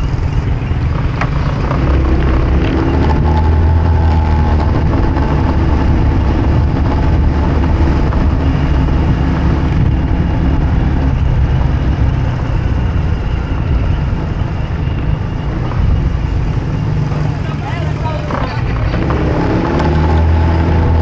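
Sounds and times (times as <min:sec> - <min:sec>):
road noise: 0:00.0 - 0:21.0
vehicle engine drone: 0:00.0 - 0:21.0.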